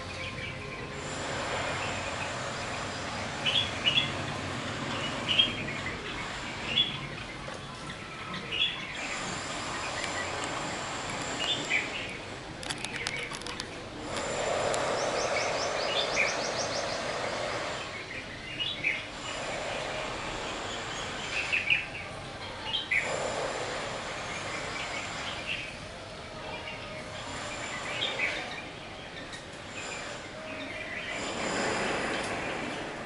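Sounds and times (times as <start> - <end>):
background noise: 0.0 - 33.0
birds chirping: 0.0 - 33.0.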